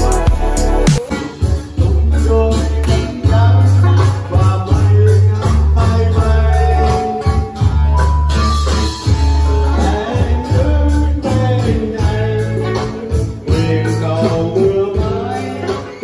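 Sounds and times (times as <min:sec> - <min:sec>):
sustained bass line: 0:00.0 - 0:15.8
electronic drum kit: 0:00.0 - 0:16.0
guitar: 0:00.0 - 0:16.0
man singing into a microphone: 0:00.0 - 0:16.0.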